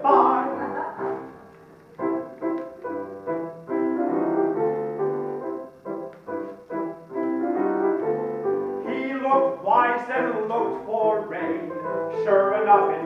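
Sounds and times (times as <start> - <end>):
solo piano playing: 0.0 - 13.0.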